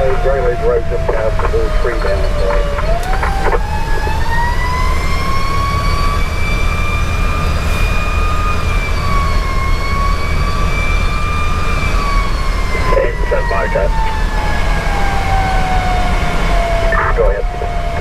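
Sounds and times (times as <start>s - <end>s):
diesel engine rumble: 0.0s - 18.0s
mechanical siren wailing: 0.0s - 18.0s
road noise: 0.0s - 18.0s.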